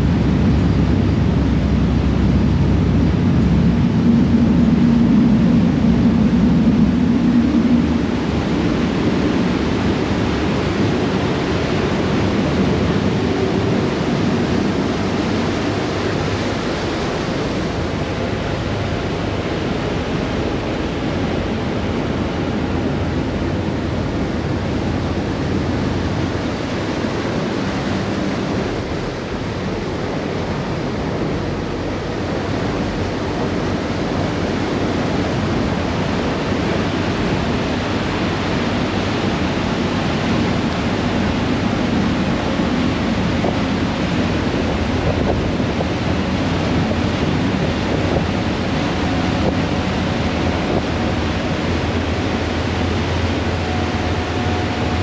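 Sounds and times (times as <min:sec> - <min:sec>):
churned water: 0:00.0 - 0:55.0
low engine drone: 0:00.0 - 0:55.0.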